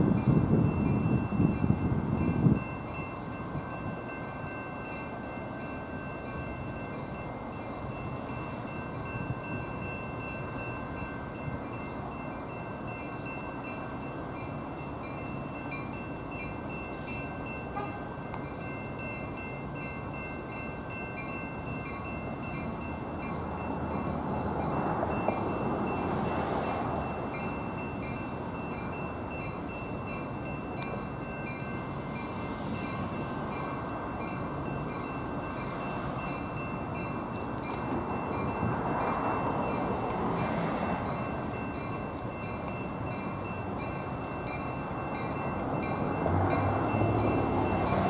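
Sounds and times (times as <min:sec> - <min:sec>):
crossing bells ringing: 0:00.0 - 0:48.0.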